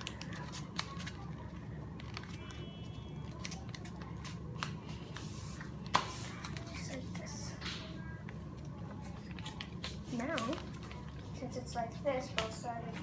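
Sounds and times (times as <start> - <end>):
paper folding and crinkling: 0.0 - 11.4.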